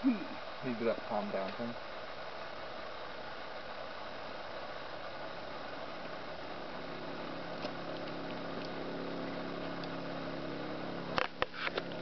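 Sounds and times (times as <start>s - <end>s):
distant motor drone: 0.0s - 12.0s
outdoor background hiss: 0.0s - 12.0s.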